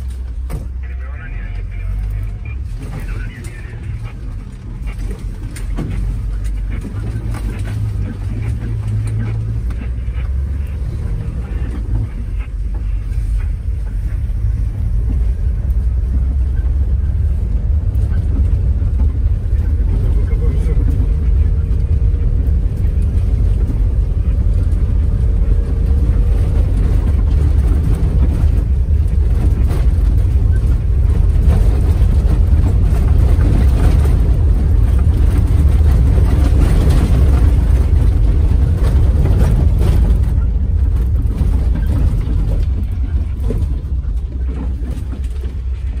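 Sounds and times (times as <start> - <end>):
engine and road rumble: 0.0 - 46.0
rattles and knocks from bumps: 2.6 - 46.0.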